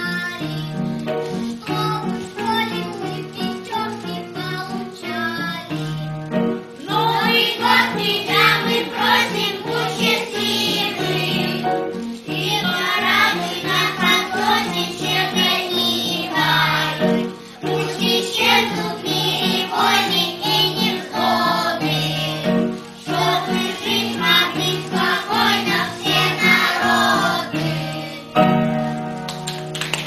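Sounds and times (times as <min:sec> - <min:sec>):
instrumental backing track: 0:00.0 - 0:30.0
child singing with group: 0:01.6 - 0:05.9, 0:06.8 - 0:28.4.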